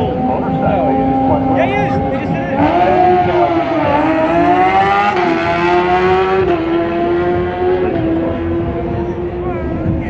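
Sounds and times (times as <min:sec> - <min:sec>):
motorcycle engine running hard: 0:00.0 - 0:10.0.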